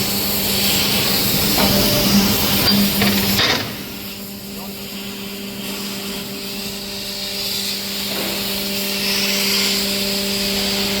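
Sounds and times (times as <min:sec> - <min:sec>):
hiss: 0:00.0 - 0:11.0
hydraulic power unit humming: 0:00.0 - 0:11.0.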